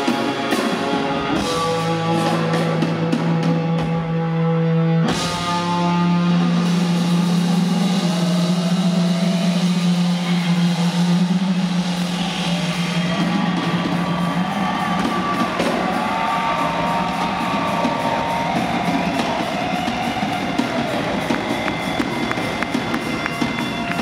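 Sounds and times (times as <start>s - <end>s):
drum kit: 0.0s - 24.0s.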